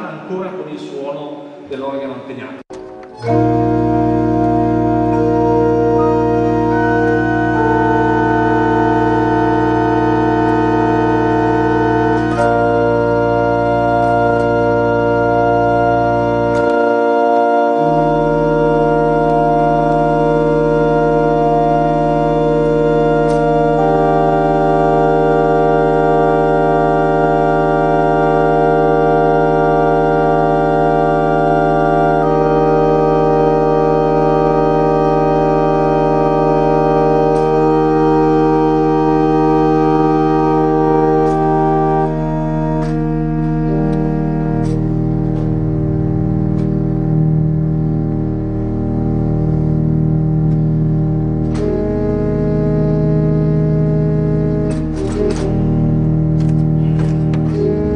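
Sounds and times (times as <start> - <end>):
pipe organ playing chords: 0.0 - 57.9.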